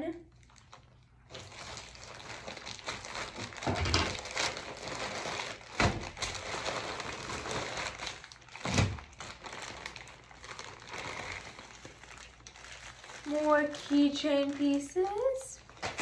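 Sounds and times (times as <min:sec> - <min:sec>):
plastic bags crinkling: 0:00.3 - 0:16.0.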